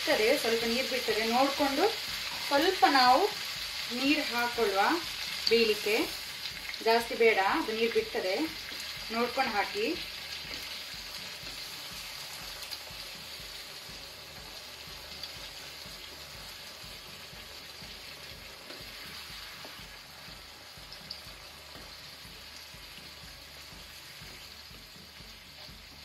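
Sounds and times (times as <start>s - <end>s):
curry sizzling in a frying pan: 0.0s - 26.0s.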